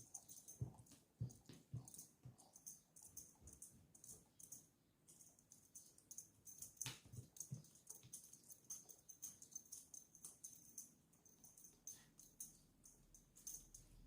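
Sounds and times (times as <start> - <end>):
light clicking and tapping: 0.0 - 14.0.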